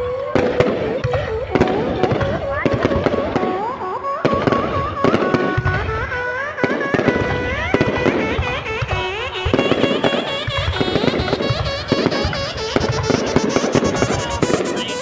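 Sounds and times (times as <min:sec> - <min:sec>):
fireworks bangs: 0:00.0 - 0:15.0
fireworks rising whistles: 0:00.0 - 0:15.0.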